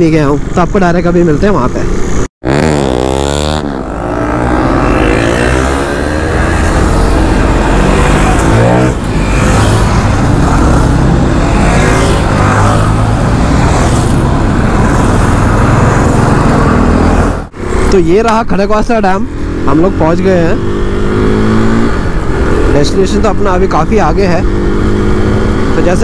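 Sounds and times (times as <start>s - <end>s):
motorcycle engine at speed: 2.4s - 17.5s, 19.3s - 26.0s.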